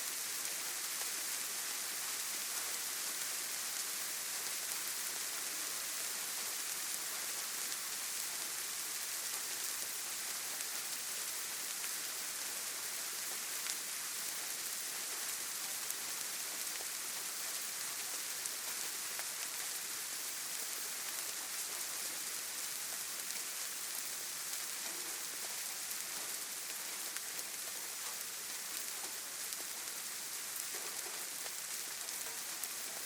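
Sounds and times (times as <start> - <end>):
rain falling on foliage: 0.0 - 33.0.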